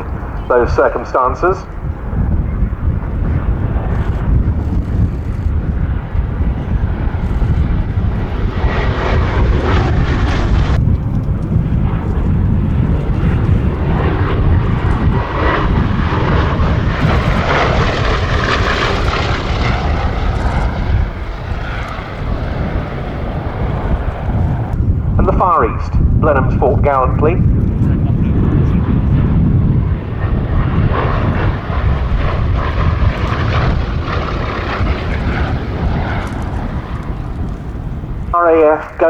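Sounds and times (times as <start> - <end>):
aircraft engines droning: 0.0 - 39.0.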